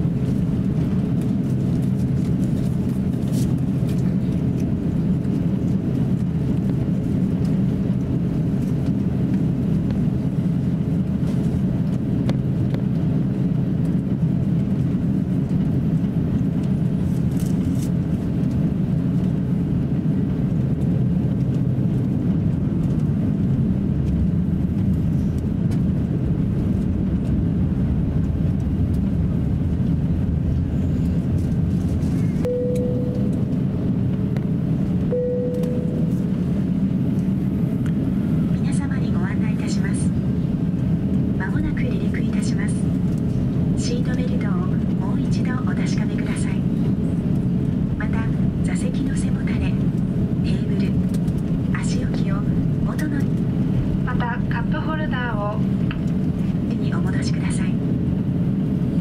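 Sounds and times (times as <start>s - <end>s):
aircraft cabin low rumble: 0.0s - 59.0s.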